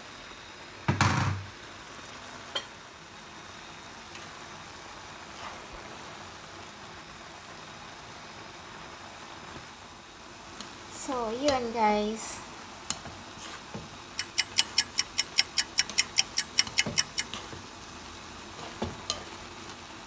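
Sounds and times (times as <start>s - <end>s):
noodles sizzling in a frying pan: 0.0s - 20.0s.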